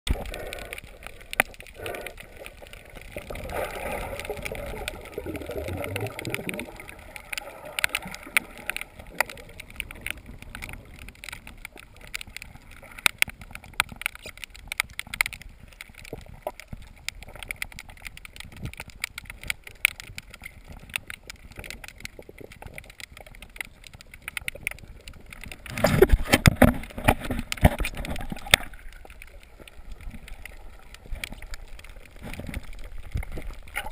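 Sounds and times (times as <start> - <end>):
crackling clicks underwater: 0.1 - 33.9
muffled underwater water wash: 0.1 - 33.9.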